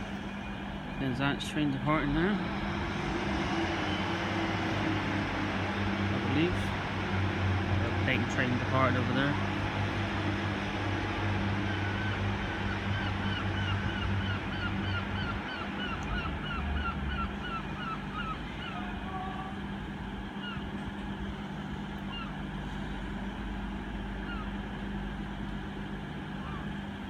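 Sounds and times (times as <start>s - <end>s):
diesel train engines humming: 0.0s - 27.0s.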